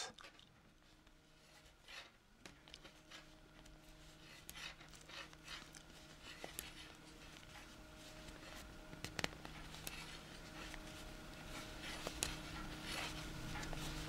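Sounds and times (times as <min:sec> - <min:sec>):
low steady hum: 0:00.0 - 0:14.0
knitting needles rubbing yarn: 0:01.4 - 0:14.0.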